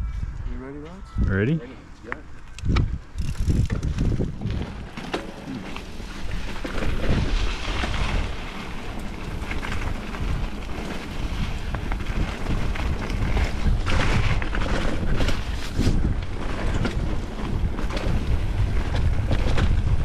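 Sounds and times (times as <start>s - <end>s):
wind buffeting microphone: 0.0s - 20.0s
bike tyres on dirt trail: 2.0s - 20.0s
bike clicks and rattles: 2.1s - 20.0s.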